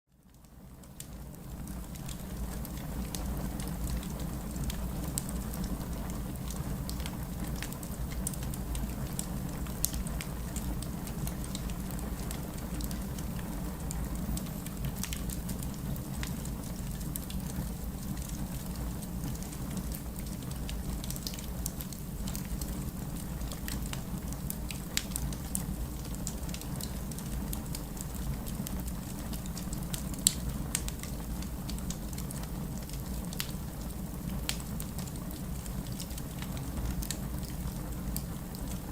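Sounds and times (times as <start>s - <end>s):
rain falling: 0.2s - 38.9s
wood fire crackling: 0.2s - 38.9s.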